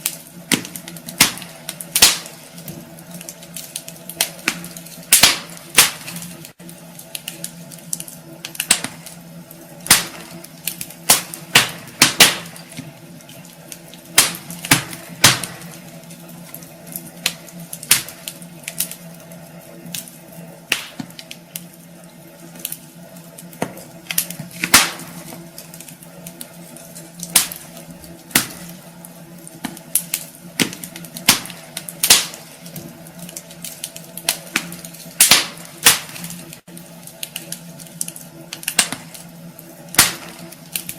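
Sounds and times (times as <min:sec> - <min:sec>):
low steady hum: 0:00.0 - 0:40.9
wood fire crackling: 0:00.0 - 0:40.9.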